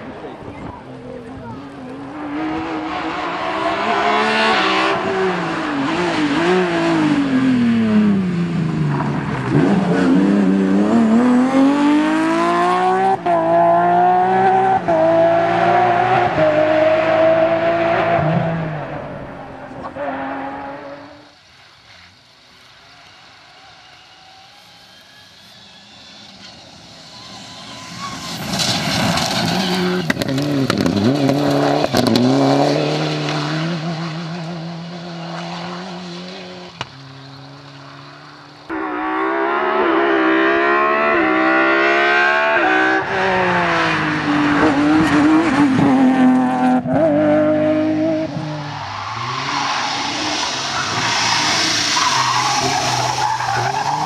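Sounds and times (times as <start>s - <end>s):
rally car engine revving: 0.4s - 21.3s, 25.8s - 54.0s.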